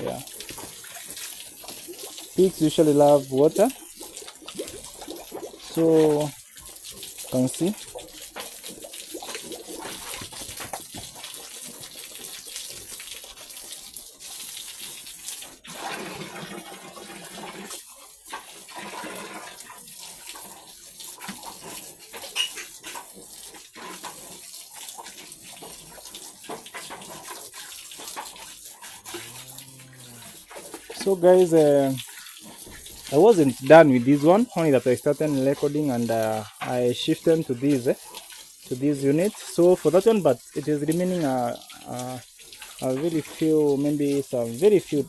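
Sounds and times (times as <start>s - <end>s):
water running and splashing: 0.0s - 45.0s.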